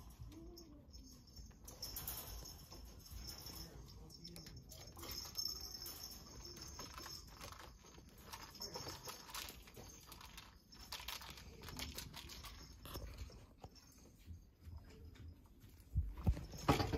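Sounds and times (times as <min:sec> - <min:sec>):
kittens' paws tapping and rustling: 0:00.0 - 0:16.9.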